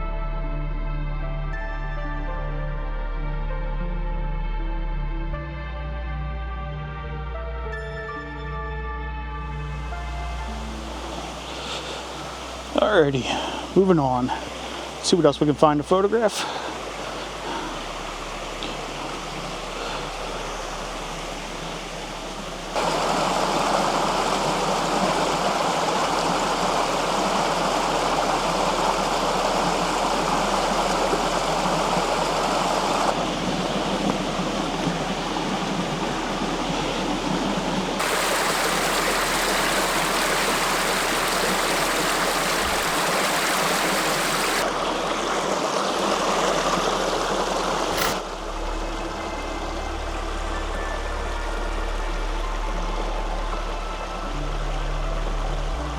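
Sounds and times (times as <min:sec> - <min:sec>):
water rushing over rocks: 0:09.8 - 0:55.9.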